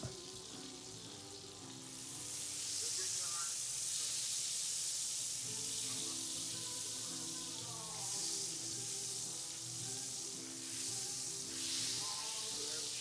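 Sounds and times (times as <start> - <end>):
background music held notes: 0.0 - 3.4, 5.3 - 13.0
butter sizzling in skillet: 0.0 - 13.0.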